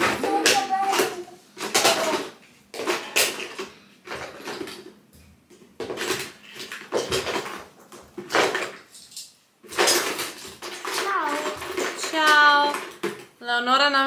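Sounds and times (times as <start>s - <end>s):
small hard objects clattering: 0.0s - 5.0s, 5.6s - 13.4s.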